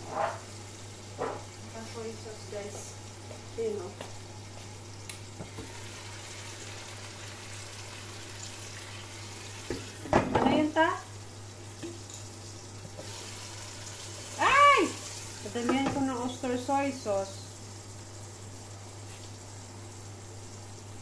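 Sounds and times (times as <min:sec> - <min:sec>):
mussels sizzling in a pan: 0:00.1 - 0:21.0.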